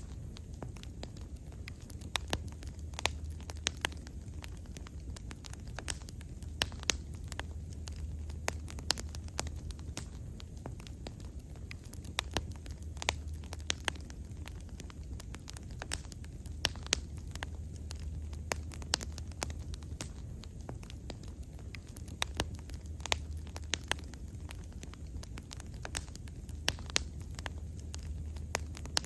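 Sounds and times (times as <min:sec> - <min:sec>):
steady low hum: 0:00.0 - 0:29.0
wood fire crackling and popping: 0:00.0 - 0:29.0.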